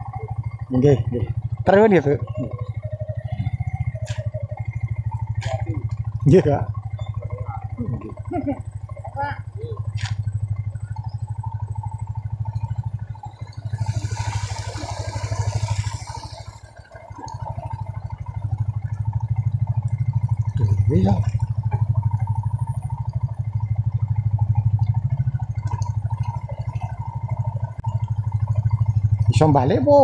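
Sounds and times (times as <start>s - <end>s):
small motorcycle engine: 0.0s - 30.0s.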